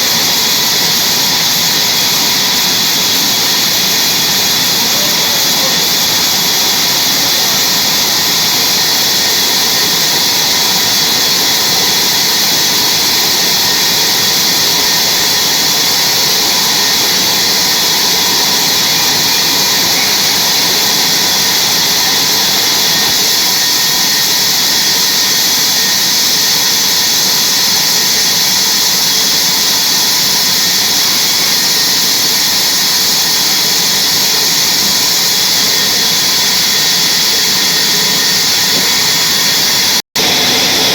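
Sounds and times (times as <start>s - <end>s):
saw cutting through log: 0.0s - 40.9s.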